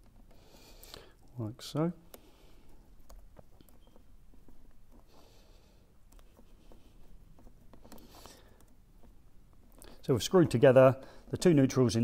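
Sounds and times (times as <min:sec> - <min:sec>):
cable and plastic connectors rustling: 0:00.0 - 0:12.0
soft breaths: 0:00.1 - 0:11.5.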